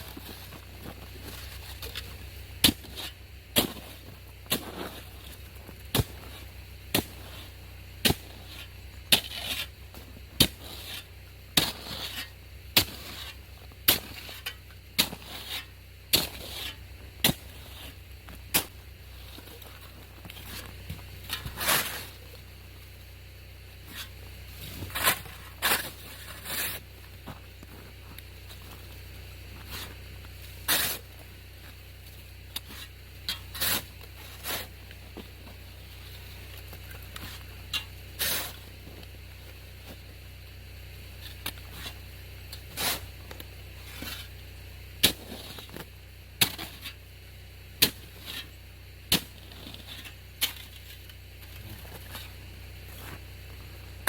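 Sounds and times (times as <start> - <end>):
snow shovel scraping crusted snow: 0.0 - 54.0.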